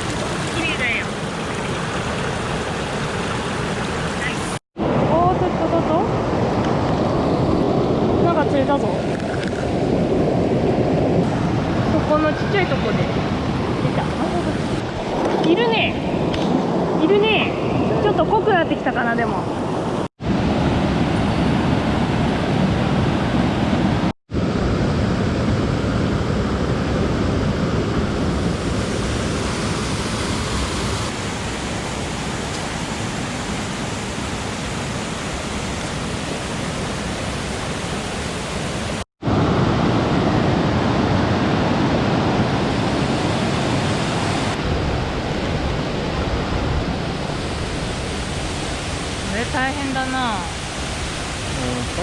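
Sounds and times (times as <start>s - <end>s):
stream water rushing: 0.0s - 5.1s, 6.1s - 24.5s, 27.6s - 52.0s.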